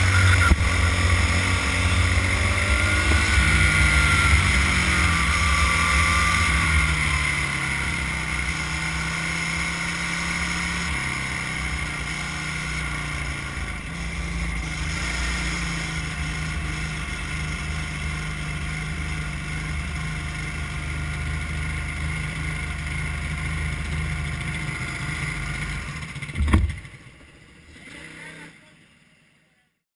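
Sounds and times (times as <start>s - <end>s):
kart engine running: 0.0s - 29.6s.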